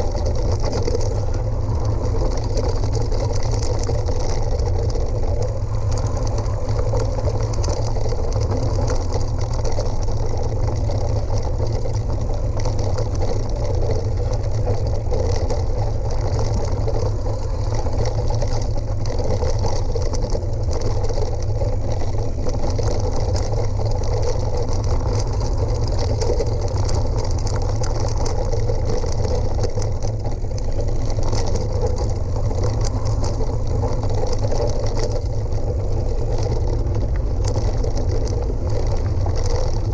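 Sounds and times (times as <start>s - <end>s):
stones crackling under tyres: 0.0s - 39.9s
vehicle rumble and rattle on gravel: 0.0s - 39.9s.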